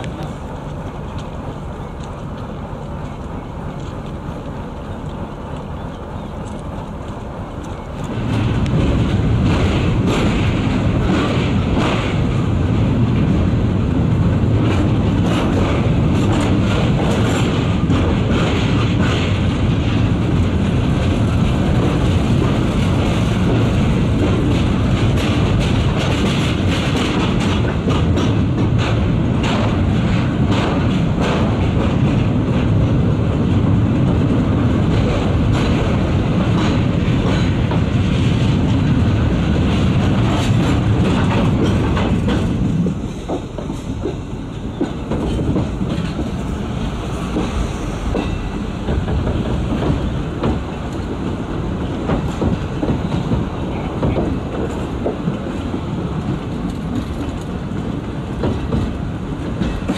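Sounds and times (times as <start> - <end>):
train wheels rumbling on rail: 0.0 - 59.9
wheels clicking over rail joints: 0.0 - 59.9.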